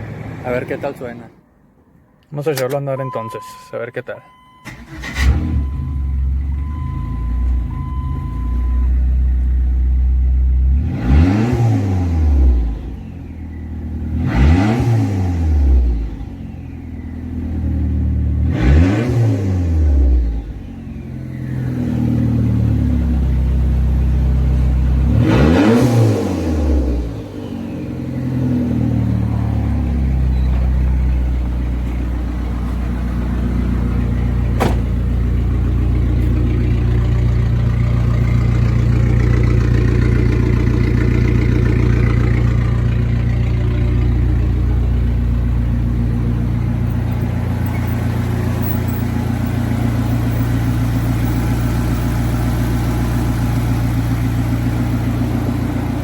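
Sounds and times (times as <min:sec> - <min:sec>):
car engine revving and idling: 0:04.7 - 0:56.0.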